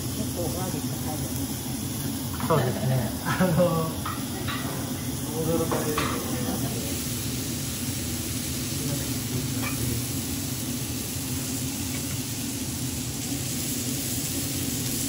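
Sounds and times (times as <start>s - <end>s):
onion and garlic sizzling on griddle: 0.0s - 15.0s.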